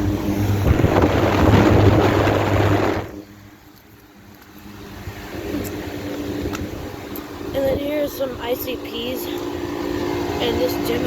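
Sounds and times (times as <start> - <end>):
fan air rushing: 0.0 - 11.0
low motor hum: 0.0 - 11.0.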